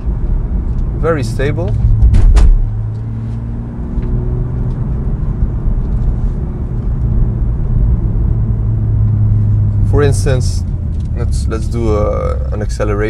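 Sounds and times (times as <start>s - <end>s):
car engine drone: 0.0s - 13.0s
tyre and road rumble: 0.0s - 13.0s.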